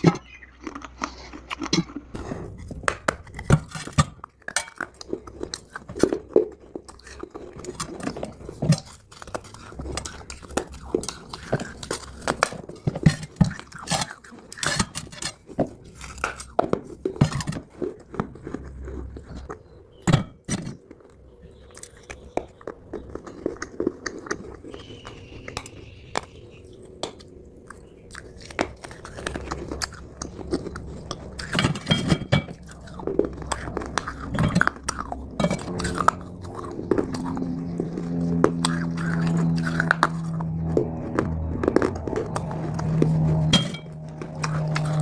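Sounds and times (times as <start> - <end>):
crunching and chewing clay: 0.0 - 45.0.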